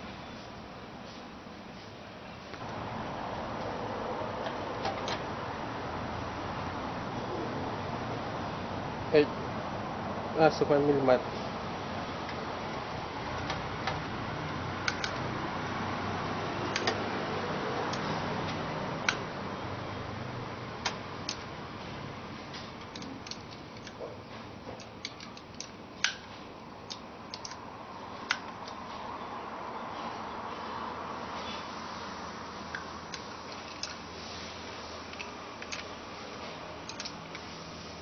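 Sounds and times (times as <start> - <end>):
steady background hiss: 0.0 - 38.0.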